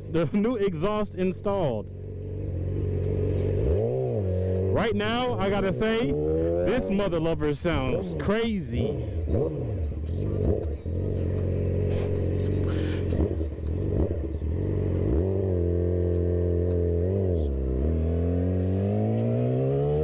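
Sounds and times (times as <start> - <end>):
sport bike engine revving: 0.0 - 20.0.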